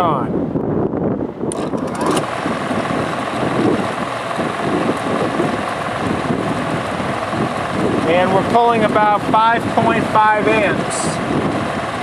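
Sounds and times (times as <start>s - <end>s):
exhaust fan running: 0.0s - 12.0s
air rushing: 1.0s - 12.0s.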